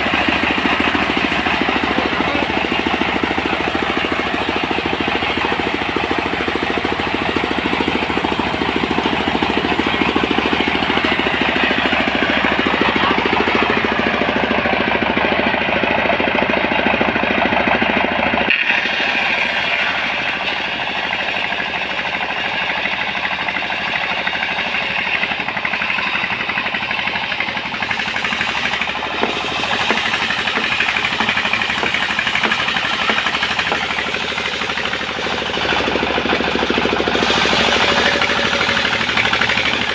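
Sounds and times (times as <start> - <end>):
portable sawmill clattering: 0.0 - 39.9.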